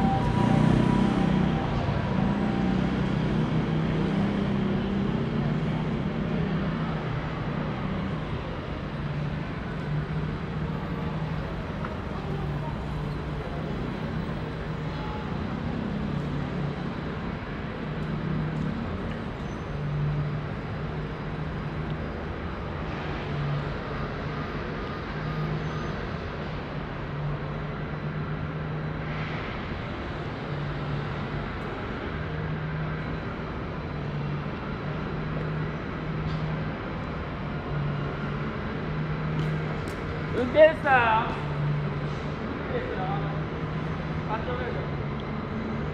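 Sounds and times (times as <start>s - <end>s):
road traffic: 0.0s - 45.9s.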